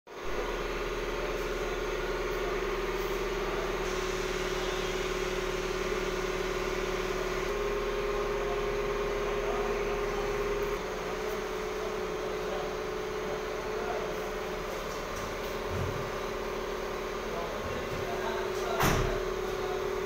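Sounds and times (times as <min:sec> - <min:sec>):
steady mechanical hum: 0:00.1 - 0:20.0.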